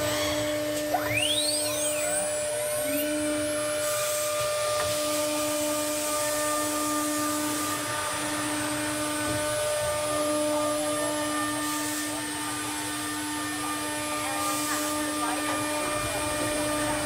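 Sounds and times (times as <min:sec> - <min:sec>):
spindle whine: 0:00.0 - 0:17.0.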